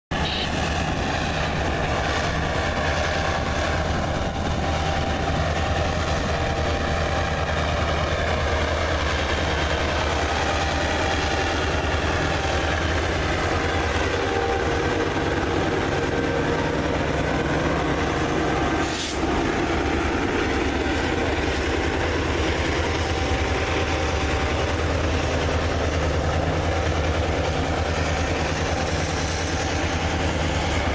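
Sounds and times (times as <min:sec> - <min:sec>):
diesel locomotive engine drone: 0:00.1 - 0:30.9.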